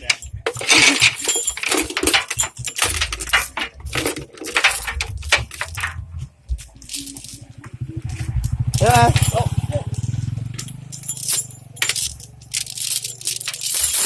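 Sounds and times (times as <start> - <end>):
excavator engine rumble: 0.0 - 14.0
metal tracks clanking and rattling: 0.0 - 14.0.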